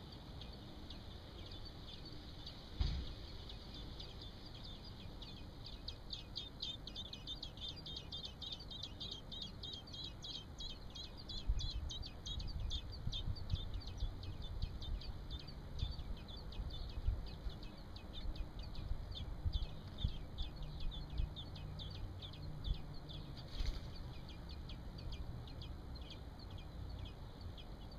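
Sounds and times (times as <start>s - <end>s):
nestlings cheeping: 0.0s - 23.4s.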